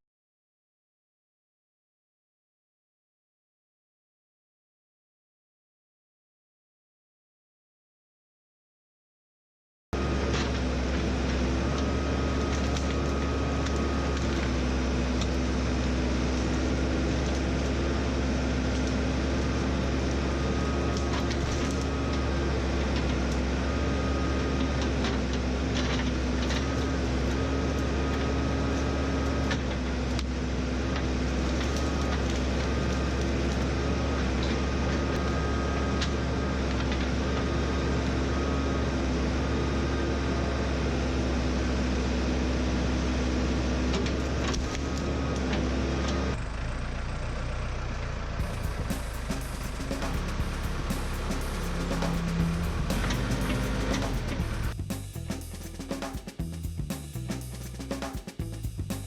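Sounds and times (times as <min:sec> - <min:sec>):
heavy machine engine rumbling: 0:10.0 - 0:59.0.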